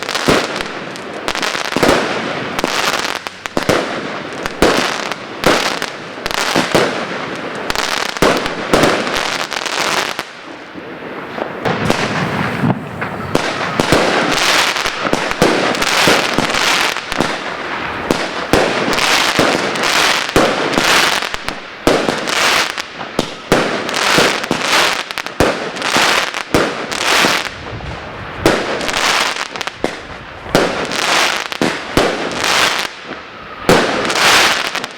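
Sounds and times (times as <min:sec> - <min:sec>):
fireworks bangs: 0:00.0 - 0:34.9
fireworks crackling: 0:00.0 - 0:34.9.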